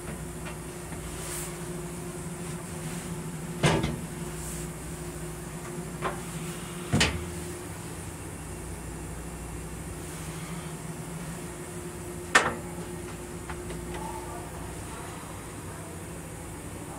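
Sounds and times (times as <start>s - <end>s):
rail car hum: 0.0s - 16.9s.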